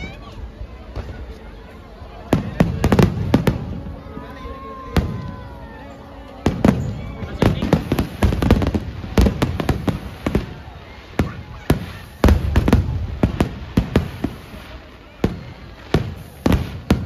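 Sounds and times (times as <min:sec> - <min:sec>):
fireworks bangs and crackles: 0:00.0 - 0:01.4, 0:02.1 - 0:17.0
fireworks booms rumbling: 0:02.3 - 0:05.6, 0:06.4 - 0:17.0.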